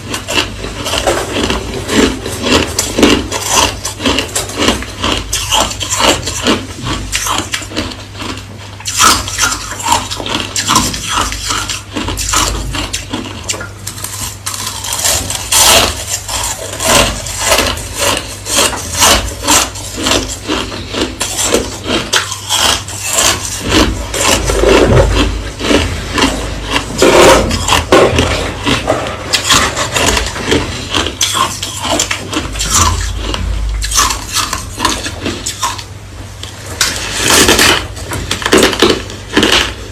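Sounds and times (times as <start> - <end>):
crushed ice being chewed: 0.0 - 39.9.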